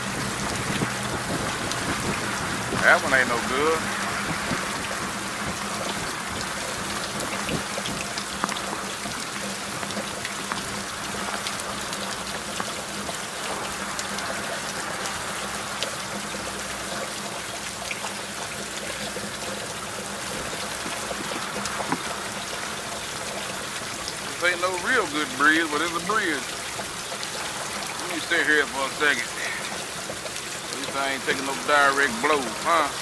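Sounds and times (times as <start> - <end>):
heavy rain on a motorcycle: 0.0 - 33.0.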